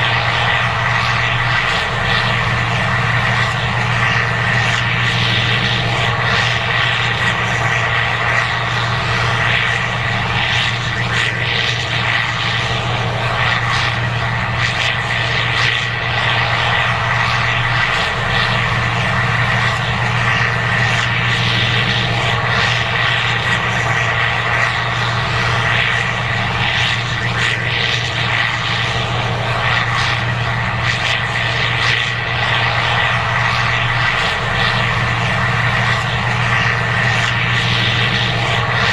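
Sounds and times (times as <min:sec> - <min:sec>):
combine harvester engine drone: 0:00.0 - 0:38.9
machinery high whine: 0:00.0 - 0:38.9.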